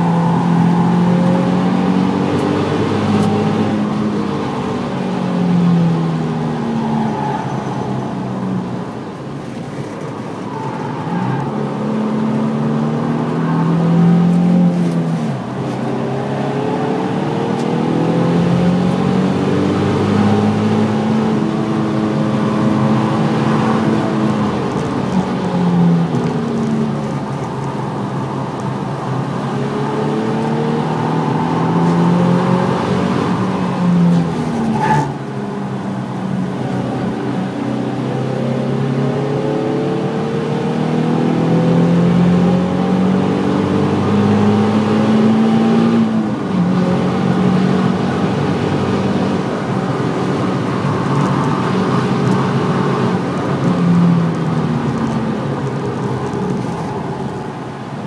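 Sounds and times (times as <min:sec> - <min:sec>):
car engine accelerating hard: 0:00.0 - 0:08.8, 0:09.4 - 0:58.0.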